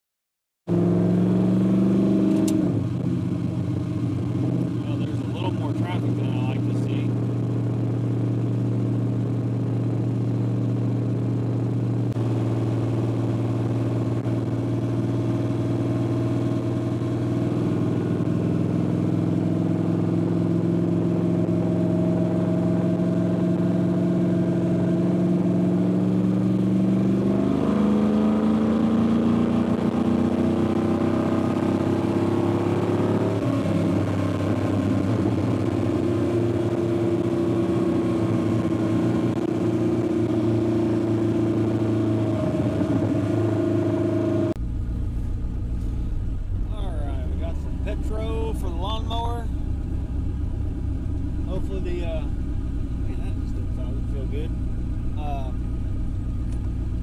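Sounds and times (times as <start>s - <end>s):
vehicle engine cruising: 0.7s - 57.0s.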